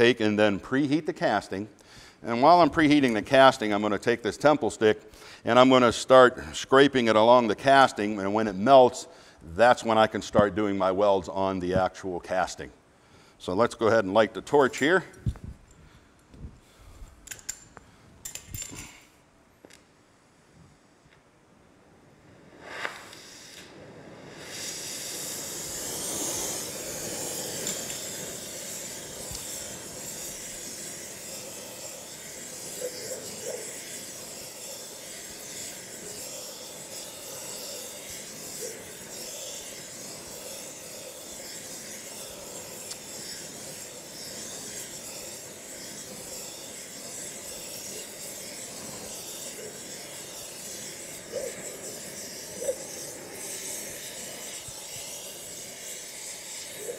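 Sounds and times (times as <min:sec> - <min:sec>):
torch flame hissing: 0:00.0 - 0:11.8, 0:21.6 - 0:56.9.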